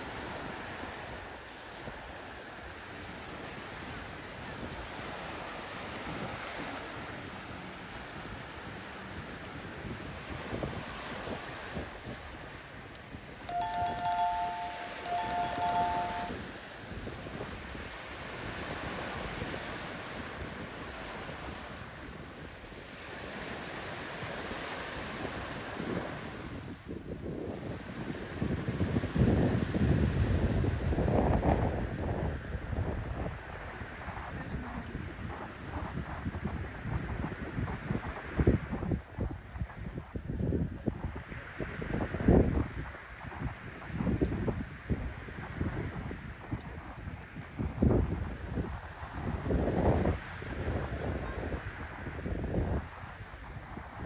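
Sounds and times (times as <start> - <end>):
surf washing on shore: 0.0 - 54.0
wind on microphone: 0.0 - 54.0.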